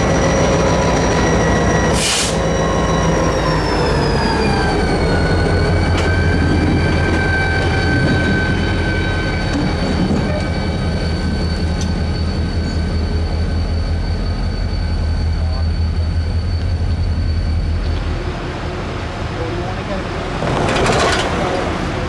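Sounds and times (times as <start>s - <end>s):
diesel locomotive rumbling: 0.0s - 22.0s
wheels squealing on rail: 0.0s - 22.0s.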